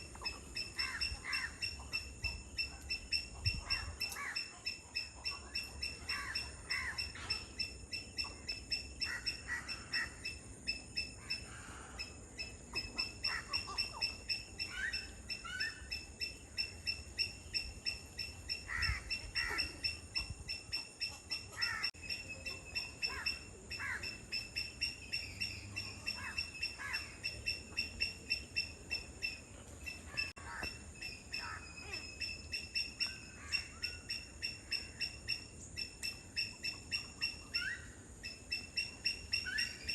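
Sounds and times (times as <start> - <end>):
wetland birds calling: 0.0 - 39.9.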